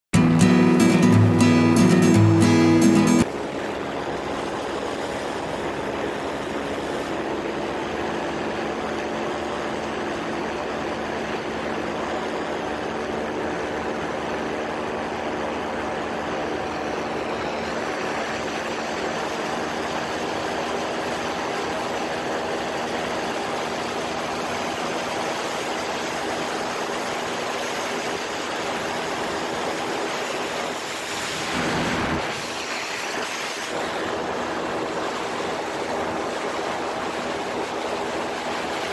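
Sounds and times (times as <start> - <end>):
ultralight aircraft engine: 3.2 - 38.9.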